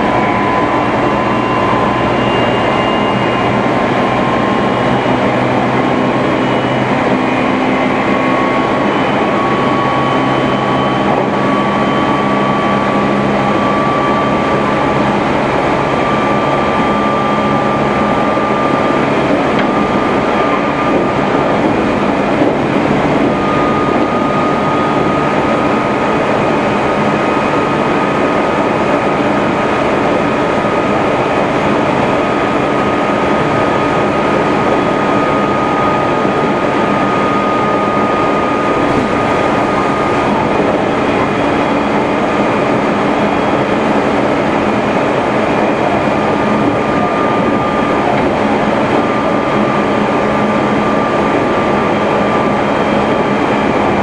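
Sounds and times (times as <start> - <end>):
high electric whine: 0.0 - 54.0
train wheels rumbling on rail: 0.0 - 54.0.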